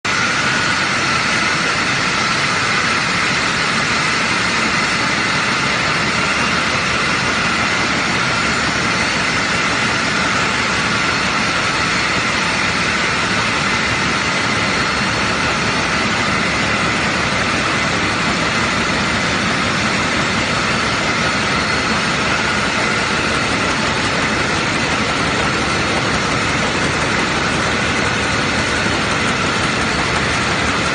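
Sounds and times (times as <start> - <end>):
machinery running with high whine: 0.0 - 30.9.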